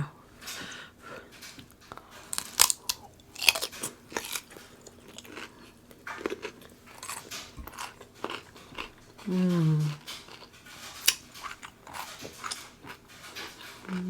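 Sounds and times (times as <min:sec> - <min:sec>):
wet chewing: 0:00.6 - 0:14.0
crunching bites: 0:02.3 - 0:14.0.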